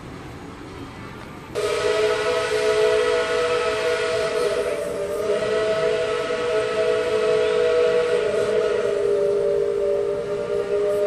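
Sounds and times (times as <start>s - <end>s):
steam hissing: 1.4s - 11.0s
steam locomotive whistle: 1.6s - 11.0s.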